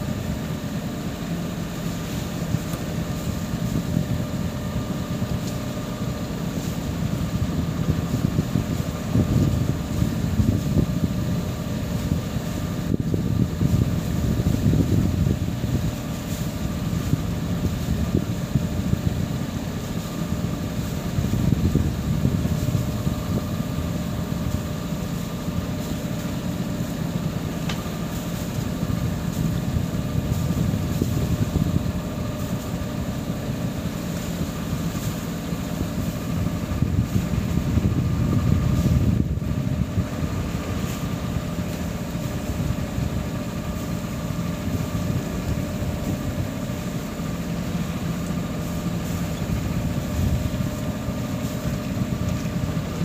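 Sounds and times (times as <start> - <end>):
wind buffeting microphone: 2.3 - 53.0.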